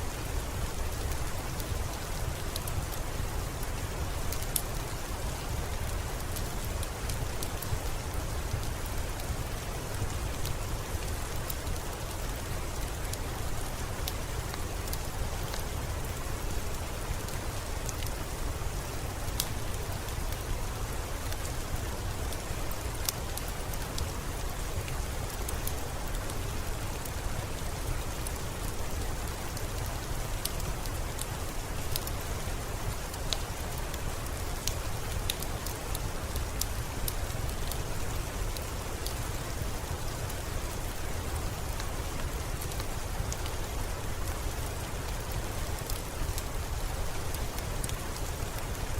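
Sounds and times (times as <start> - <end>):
steady rainfall: 0.0 - 48.9
wood fire crackling: 0.2 - 48.9.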